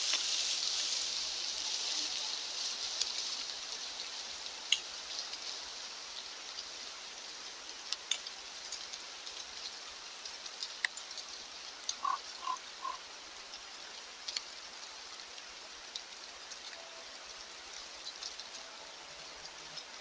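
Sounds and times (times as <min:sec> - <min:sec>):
light rain hissing: 0:00.0 - 0:20.0
rain drop ticks: 0:03.0 - 0:20.0.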